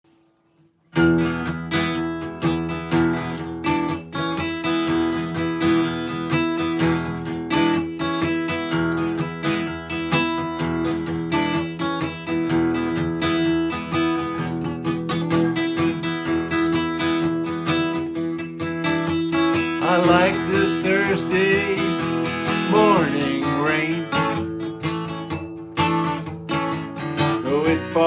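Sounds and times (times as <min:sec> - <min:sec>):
acoustic guitar strumming: 0:00.9 - 0:28.0.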